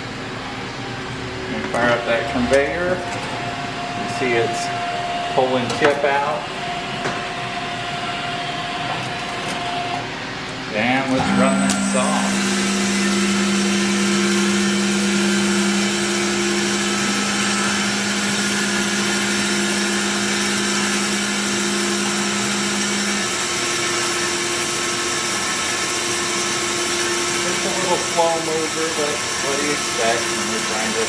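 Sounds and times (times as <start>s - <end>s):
steady machine hum: 0.0s - 31.0s
band saw cutting wood: 1.4s - 31.0s.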